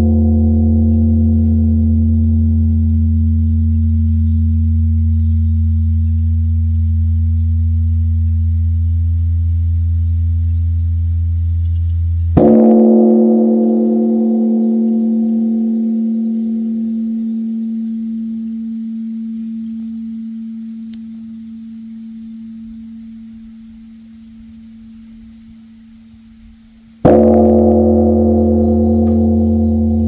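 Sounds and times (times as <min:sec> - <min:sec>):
large bronze bell ringing: 0:00.0 - 0:26.0, 0:27.0 - 0:30.0.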